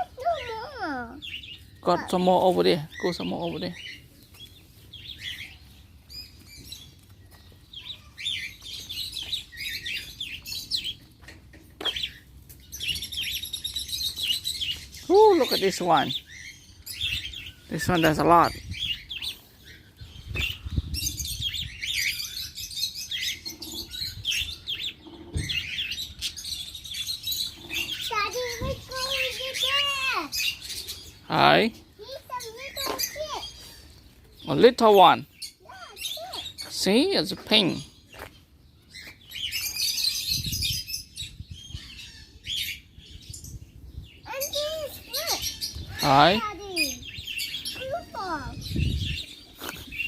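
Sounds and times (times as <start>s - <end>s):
small birds chirping and twittering: 0.0s - 50.0s.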